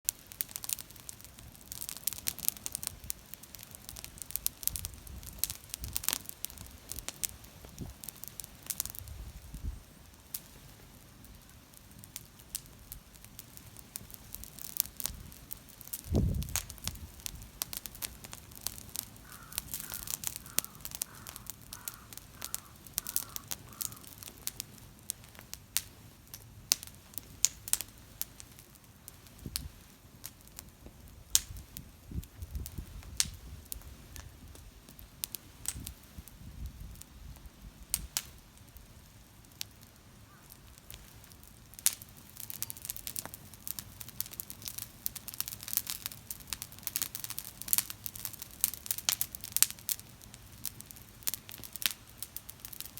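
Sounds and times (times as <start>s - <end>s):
campfire crackling and popping: 0.1s - 52.9s.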